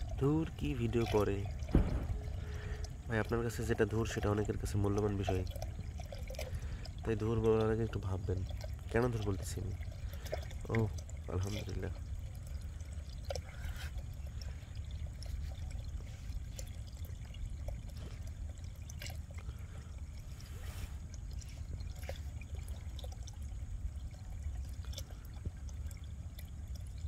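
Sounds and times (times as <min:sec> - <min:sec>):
small splashes: 0:00.0 - 0:27.0
steady low rumble: 0:00.0 - 0:27.0
water pouring and trickling: 0:00.0 - 0:27.0.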